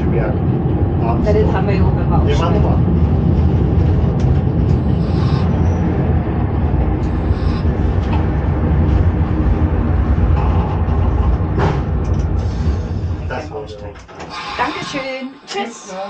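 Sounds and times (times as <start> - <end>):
train wheels rumbling on rails: 0.0 - 15.2.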